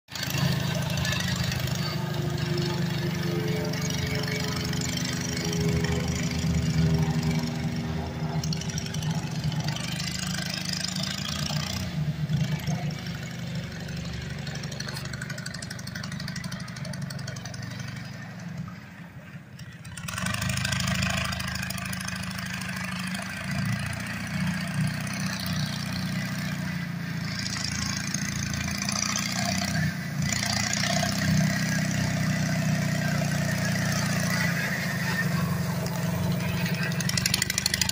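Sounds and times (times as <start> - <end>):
small tractor engine running: 0.1 - 37.9.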